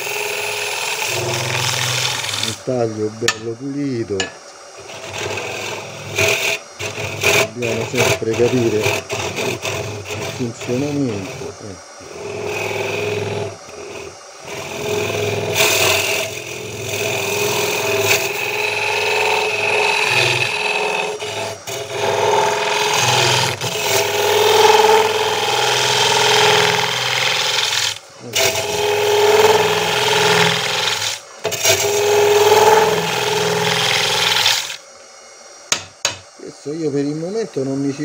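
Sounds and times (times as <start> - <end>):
lathe tool scraping wood: 0.0 - 34.8
lathe humming: 0.0 - 38.0.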